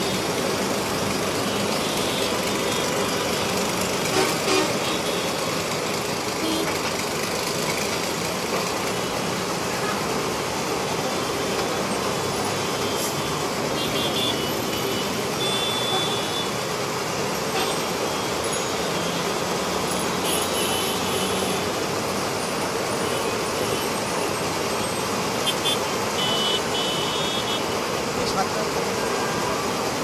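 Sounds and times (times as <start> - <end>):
heavy road traffic: 0.0 - 30.0.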